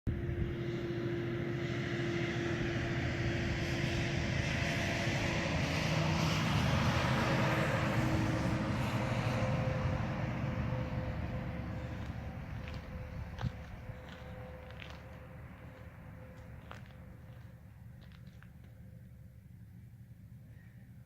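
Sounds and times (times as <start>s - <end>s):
vehicle road and engine noise: 0.1s - 21.0s.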